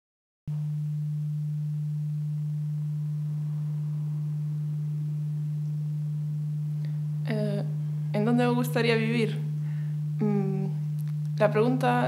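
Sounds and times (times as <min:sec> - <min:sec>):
steady low hum: 0:00.5 - 0:12.0.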